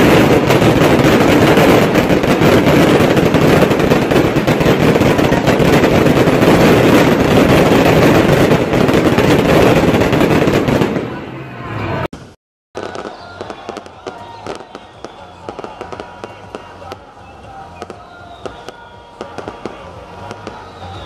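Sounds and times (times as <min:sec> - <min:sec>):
firework fountain crackling: 0:00.0 - 0:21.0.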